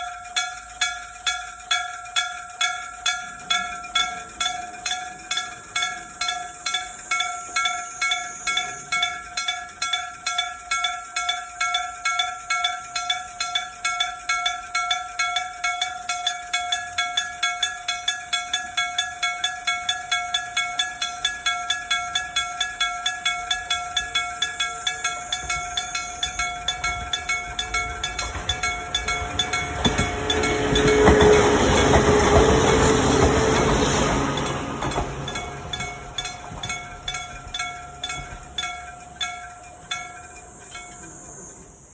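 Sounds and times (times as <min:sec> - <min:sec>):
level crossing bell ringing: 0:00.0 - 0:41.5.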